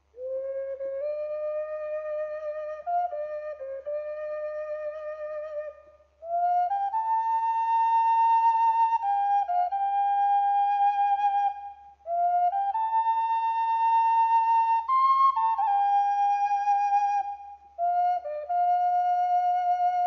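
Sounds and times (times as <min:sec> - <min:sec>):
slow flute melody: 0:00.0 - 0:20.0.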